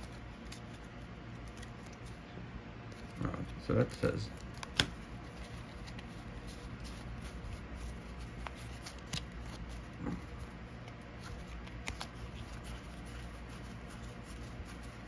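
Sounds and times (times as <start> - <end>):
cards sliding and tapping: 0.0 - 2.2, 4.0 - 15.0
low room hum: 0.0 - 15.0.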